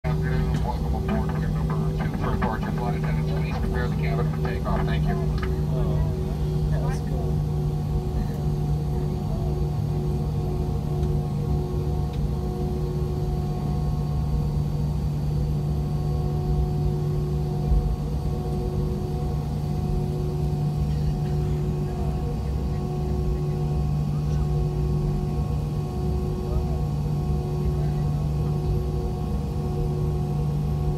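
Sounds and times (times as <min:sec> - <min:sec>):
jet engine humming: 0:00.0 - 0:30.9.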